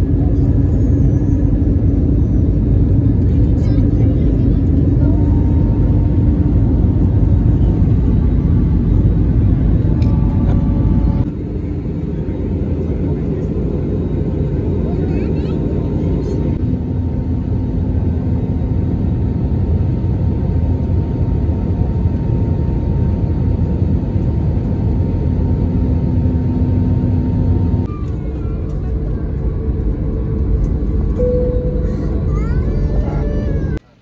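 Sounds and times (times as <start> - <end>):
jet cabin engine and air noise: 0.0 - 34.0.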